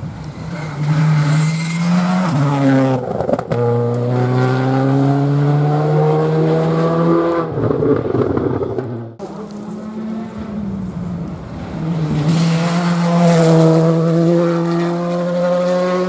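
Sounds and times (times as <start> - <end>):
rally car engine accelerating: 0.5 - 16.0.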